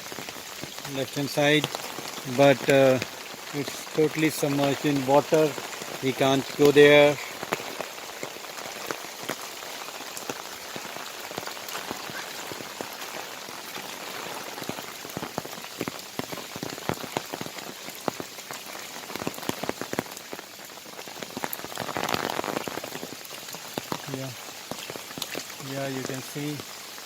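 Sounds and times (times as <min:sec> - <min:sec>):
heavy rain falling: 0:00.0 - 0:27.0
raindrops tapping: 0:00.0 - 0:27.0.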